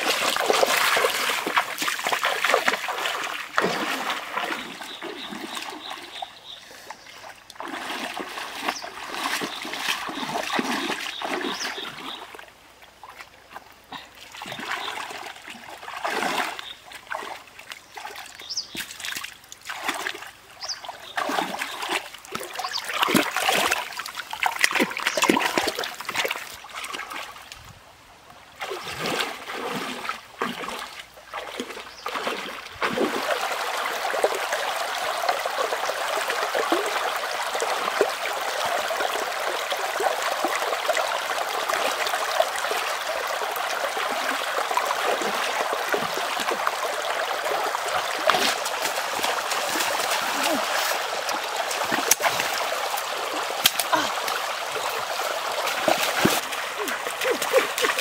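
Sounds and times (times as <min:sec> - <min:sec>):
water splashing from wading: 0:00.0 - 0:06.6, 0:07.2 - 0:12.5, 0:14.2 - 0:27.5, 0:28.6 - 0:58.0
stream water trickling: 0:00.0 - 0:58.0.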